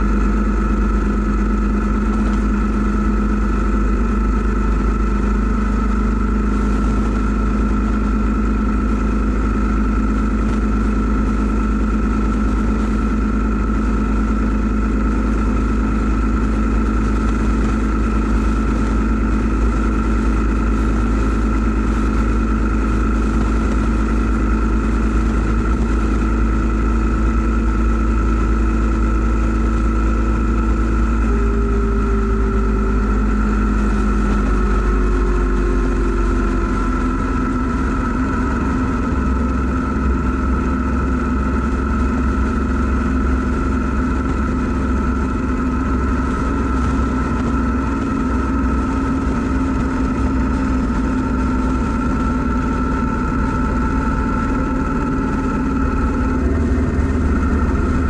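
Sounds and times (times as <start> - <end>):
motorcycle engine cruising: 0.0 - 58.0
wind rush on microphone: 0.0 - 58.0.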